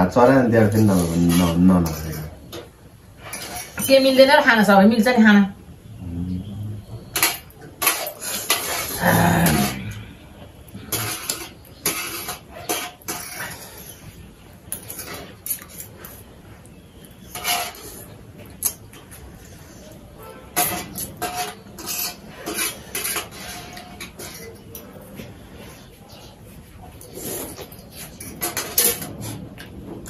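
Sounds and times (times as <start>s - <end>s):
cutlery clinking on metal plates: 0.4s - 4.2s, 7.1s - 9.9s, 10.8s - 16.2s, 17.2s - 30.0s.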